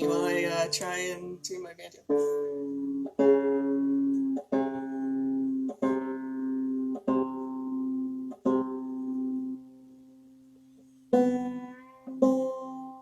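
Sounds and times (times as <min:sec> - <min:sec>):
banjo chord strummed: 0:00.0 - 0:13.0.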